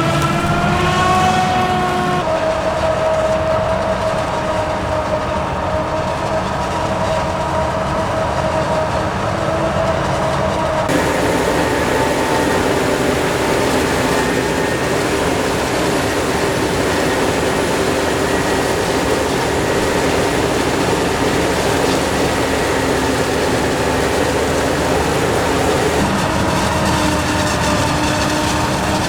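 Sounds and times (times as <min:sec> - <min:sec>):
diesel machinery engine drone: 0:00.0 - 0:29.0
machinery whine: 0:00.0 - 0:29.0.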